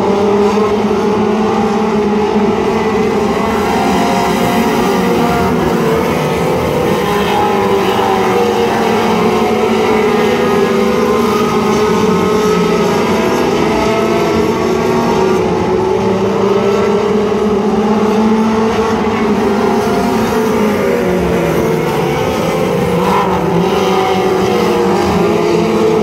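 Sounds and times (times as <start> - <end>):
race car engines droning: 0.0 - 26.0.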